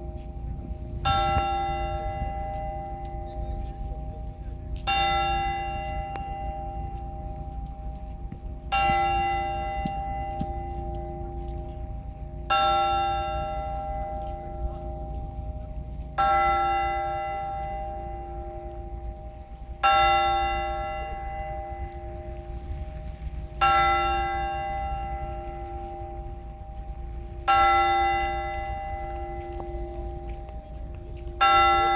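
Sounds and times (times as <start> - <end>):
church bell tolling slowly: 0.0 - 31.9.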